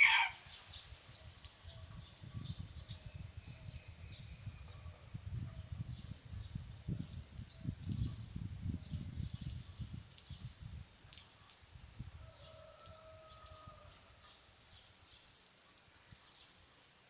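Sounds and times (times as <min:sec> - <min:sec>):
light rain dripping: 0:00.0 - 0:17.0.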